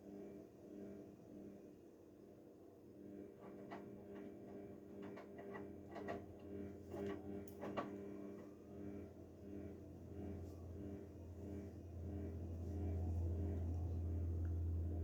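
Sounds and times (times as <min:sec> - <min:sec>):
washing machine motor hum: 0:02.8 - 0:15.0.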